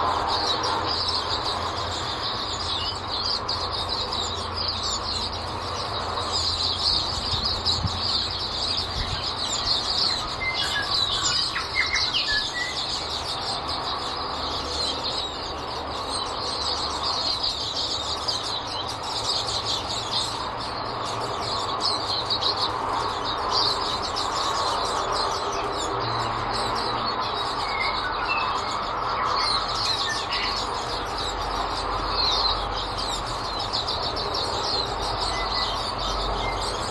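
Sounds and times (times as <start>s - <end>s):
flock of birds chirping: 0.0s - 36.9s.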